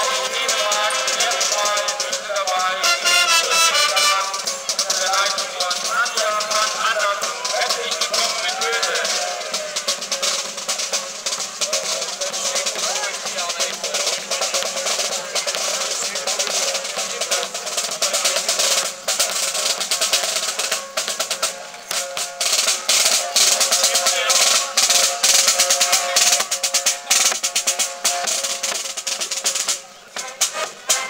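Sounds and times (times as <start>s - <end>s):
snare drum beats and rolls: 0.0s - 31.0s.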